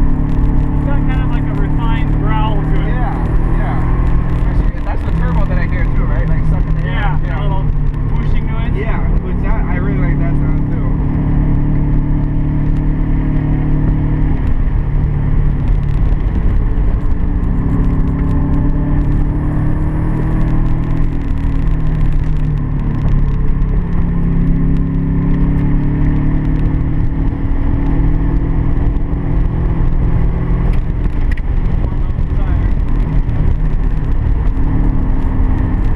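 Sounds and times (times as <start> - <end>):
car engine accelerating through gears: 0.0 - 35.9
wind and road noise: 0.0 - 35.9.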